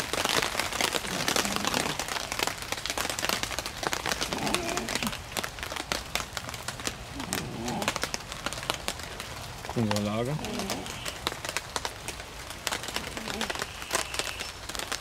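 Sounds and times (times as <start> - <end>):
heavy rain on tarp: 0.0 - 15.0.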